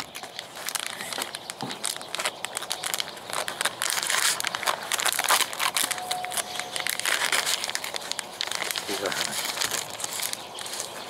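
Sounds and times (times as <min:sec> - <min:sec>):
plastic pouch crinkling: 0:00.0 - 0:11.0.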